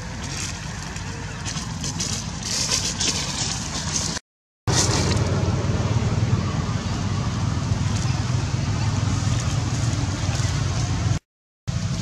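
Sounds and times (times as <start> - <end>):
outdoor rumble with hiss: 0.0 - 12.0.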